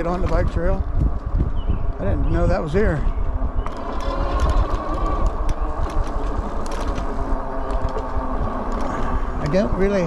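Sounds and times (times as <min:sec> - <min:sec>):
wind rumble on microphone: 0:00.0 - 0:10.0
electric motor whining: 0:01.4 - 0:10.0.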